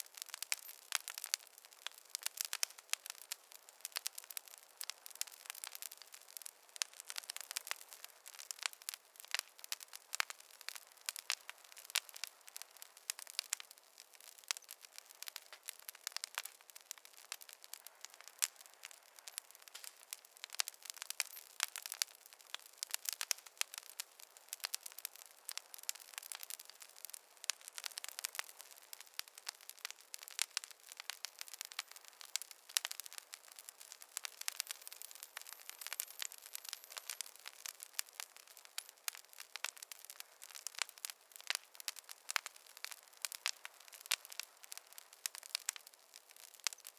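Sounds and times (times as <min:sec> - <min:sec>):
campfire crackling: 0:00.0 - 0:46.9
faint hiss: 0:00.0 - 0:46.9.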